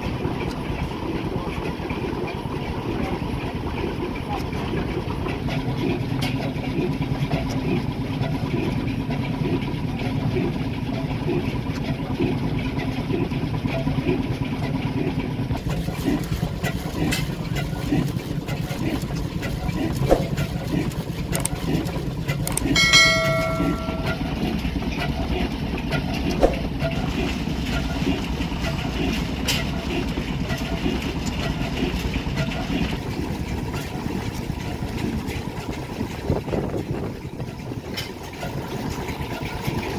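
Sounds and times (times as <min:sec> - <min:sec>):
oil engine running: 0:00.0 - 0:39.9.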